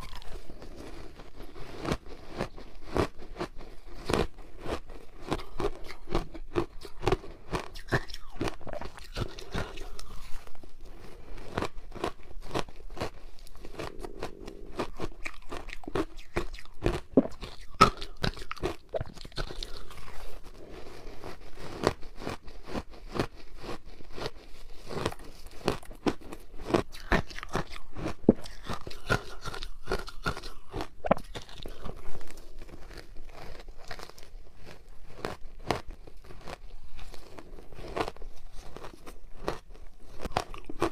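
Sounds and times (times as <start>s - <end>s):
crunching ice between teeth: 0.0s - 40.9s.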